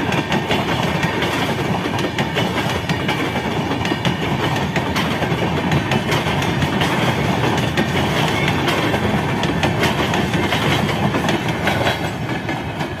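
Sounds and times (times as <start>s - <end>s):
train rumbling on track: 0.0s - 13.0s
train wheels clattering over rail joints: 0.0s - 13.0s.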